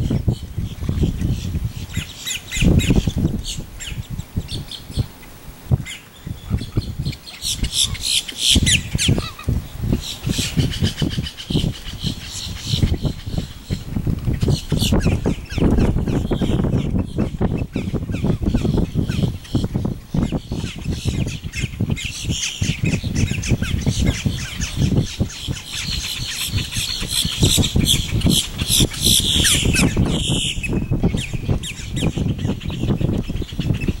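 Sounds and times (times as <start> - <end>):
wind rumble on microphone: 0.0 - 34.0
wetland birds squawking: 5.8 - 34.0.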